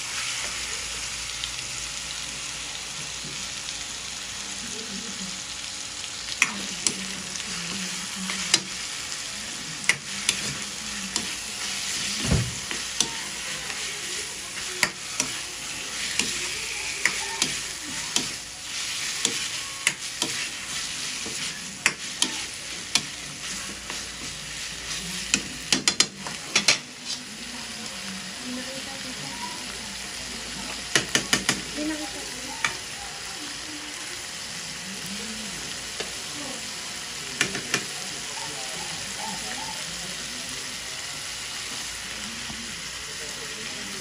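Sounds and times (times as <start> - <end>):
chicken sizzling in hot oil: 0.0 - 44.0.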